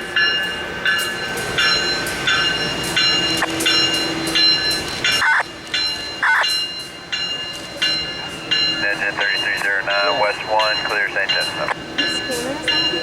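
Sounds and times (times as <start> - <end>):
train running: 0.0 - 13.0
bell ringing: 0.2 - 13.0.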